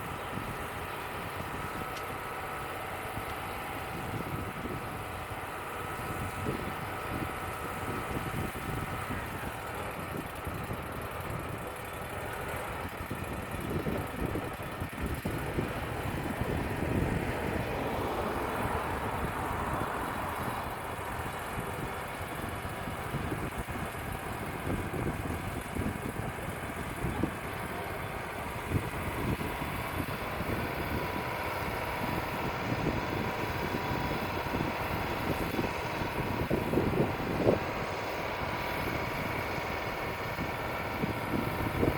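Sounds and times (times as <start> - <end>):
wind gusting on microphone: 0.0 - 11.8, 12.7 - 41.9
band sawmill engine drone: 0.0 - 41.9.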